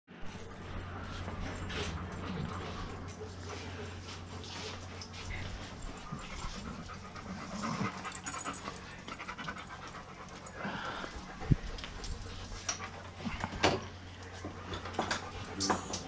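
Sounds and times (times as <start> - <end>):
dog panting: 0.4 - 16.0.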